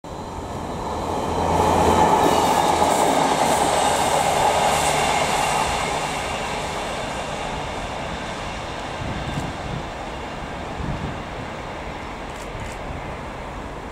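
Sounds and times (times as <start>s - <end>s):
train rail rumble: 0.1s - 13.9s.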